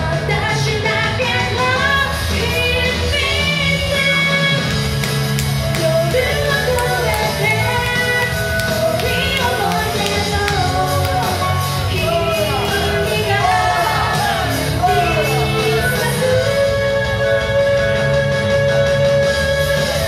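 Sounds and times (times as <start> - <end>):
woman singing into microphone: 0.0 - 17.4
loud band backing track: 0.0 - 20.0.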